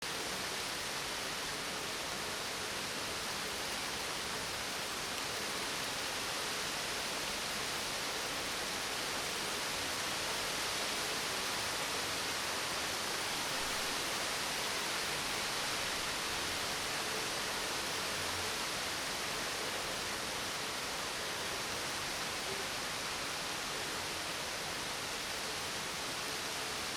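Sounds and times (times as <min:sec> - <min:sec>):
steady rainfall: 0:00.0 - 0:26.9.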